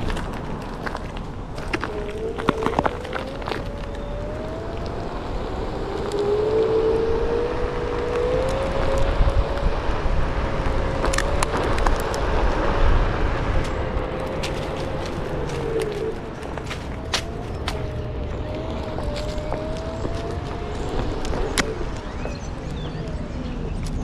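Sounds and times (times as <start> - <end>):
tyre rumble on asphalt: 0.0 - 24.0
wind noise on microphone: 0.0 - 24.0
electric motor whining: 1.6 - 23.8.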